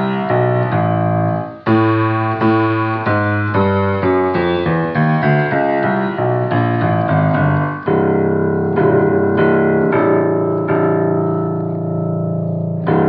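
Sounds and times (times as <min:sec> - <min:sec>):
piano playing chords: 0:00.0 - 0:13.0.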